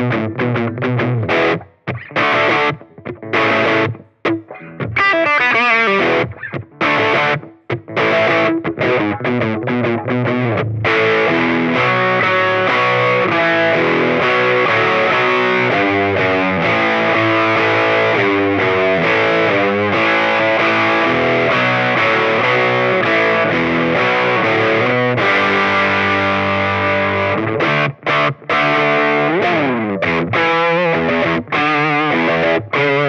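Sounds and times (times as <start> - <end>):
distorted electric guitar riff: 0.0 - 33.0.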